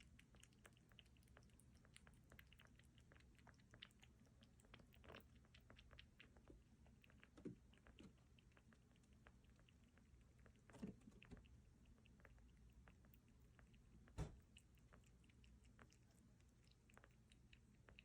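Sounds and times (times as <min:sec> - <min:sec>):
small animal chewing clicks: 0:00.0 - 0:18.0.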